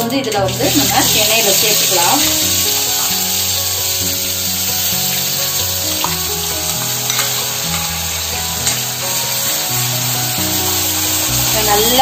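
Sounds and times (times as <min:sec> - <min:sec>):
onion paste sizzling in oil: 0:00.0 - 0:12.0
steel spoon stirring: 0:00.2 - 0:12.0.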